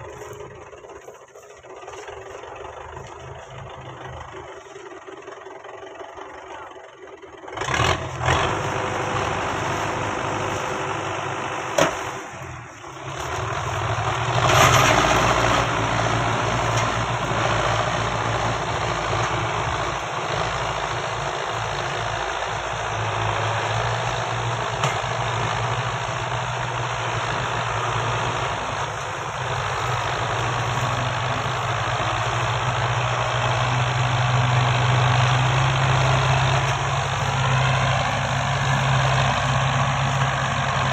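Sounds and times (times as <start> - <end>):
tractor diesel engines running: 0.0 - 40.9.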